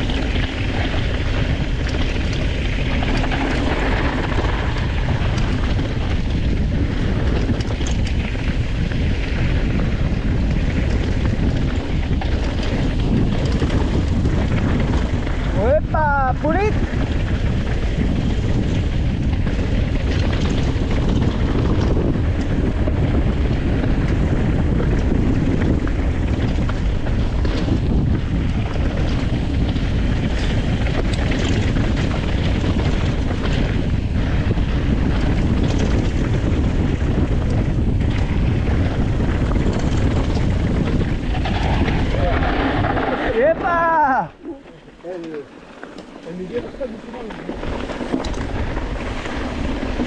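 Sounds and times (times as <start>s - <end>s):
bike clicks and rattles: 0.0s - 50.0s
wind buffeting microphone: 0.0s - 50.0s.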